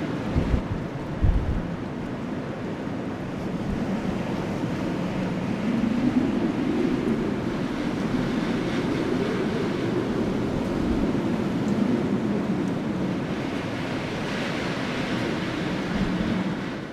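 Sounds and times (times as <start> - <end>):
strong wind blowing: 0.0 - 16.9.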